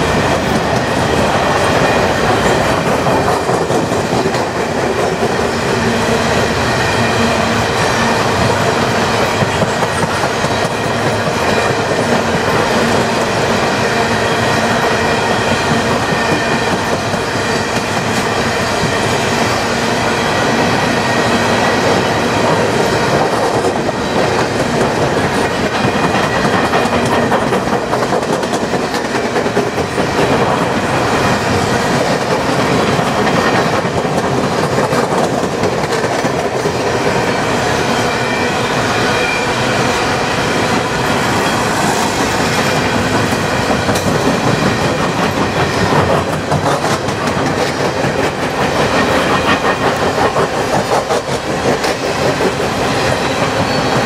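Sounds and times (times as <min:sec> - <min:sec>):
freight train rumbling past: 0:00.0 - 0:54.0
train wheels clicking on rails: 0:00.0 - 0:54.0.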